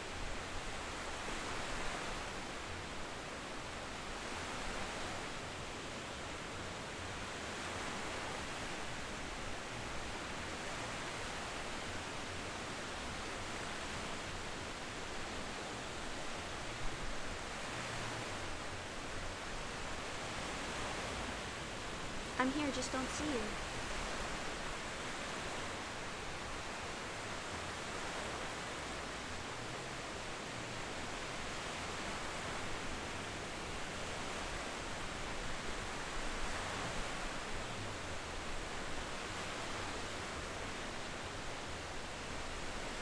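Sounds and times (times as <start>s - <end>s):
ocean surf washing on beach: 0.0s - 43.0s.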